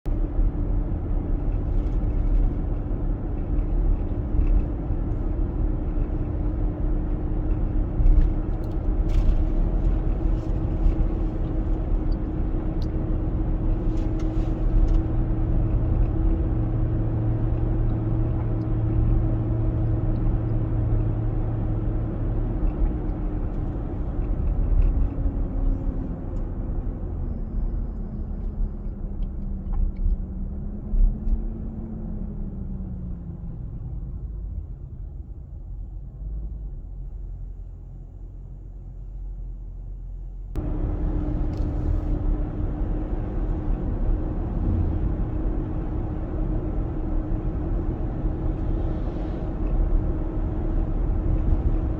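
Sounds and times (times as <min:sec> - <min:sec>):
engine rumbling: 0:00.0 - 0:51.9.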